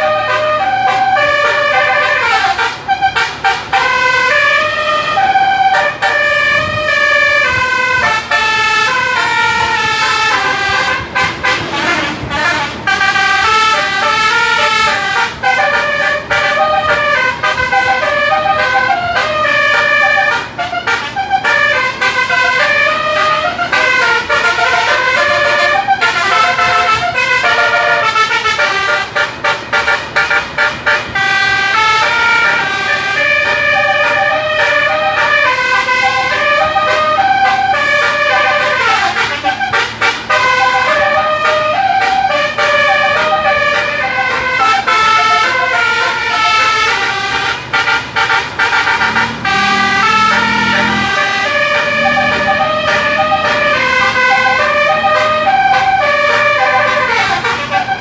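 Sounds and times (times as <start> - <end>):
bus air horns playing melody: 0.0 - 58.0.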